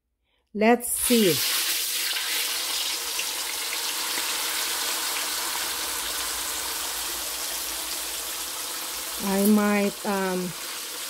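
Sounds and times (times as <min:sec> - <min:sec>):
fish sizzling in hot oil: 0:01.0 - 0:11.0.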